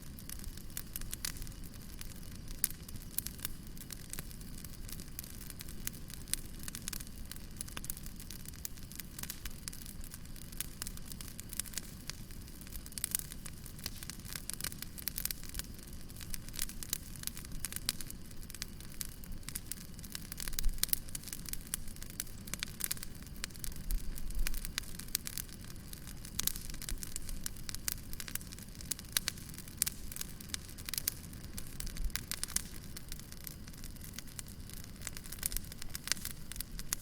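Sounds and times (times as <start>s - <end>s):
fire crackling: 0.0s - 37.0s
low rumble of fire: 0.0s - 37.0s.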